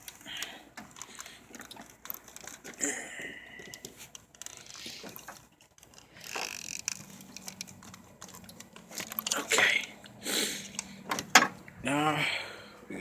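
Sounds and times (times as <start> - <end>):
connector clicks and rattles: 0.0 - 2.8, 3.6 - 11.8.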